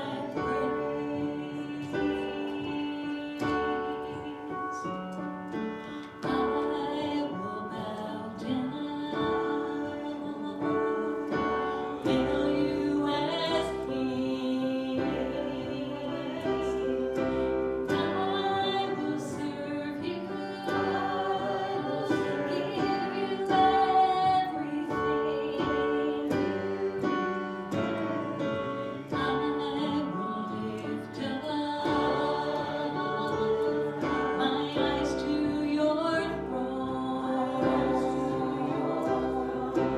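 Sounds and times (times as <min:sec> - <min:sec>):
piano chords: 0:00.0 - 0:39.9
singers performing worship song: 0:00.0 - 0:39.9.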